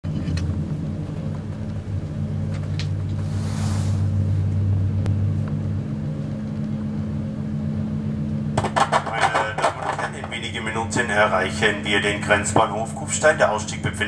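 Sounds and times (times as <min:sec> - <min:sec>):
train running rumble and hum: 0:00.0 - 0:14.0.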